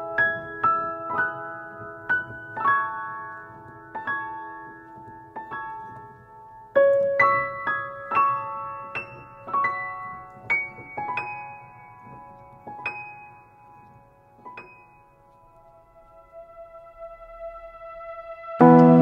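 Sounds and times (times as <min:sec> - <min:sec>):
keyboard melody: 0:00.0 - 0:19.0.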